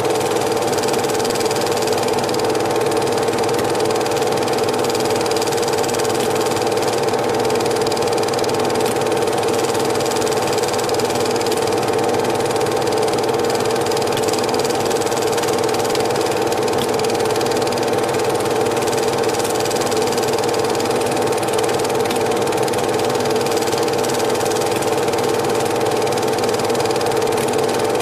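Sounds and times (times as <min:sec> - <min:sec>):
film projector whirring: 0:00.0 - 0:28.0.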